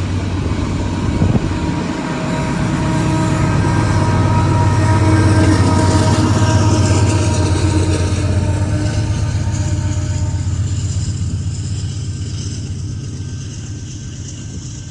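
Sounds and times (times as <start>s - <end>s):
diesel locomotive rumbling past: 0.0s - 14.9s
locomotive held tones: 0.2s - 14.9s.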